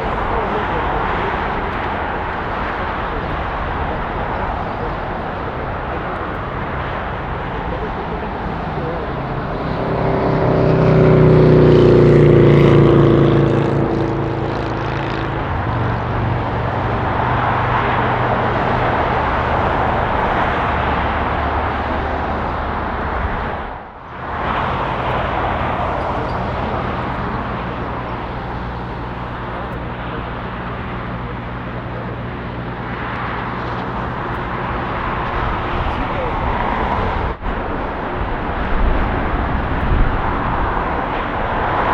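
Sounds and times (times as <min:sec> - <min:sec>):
jet airliner passing: 0:00.0 - 0:41.9.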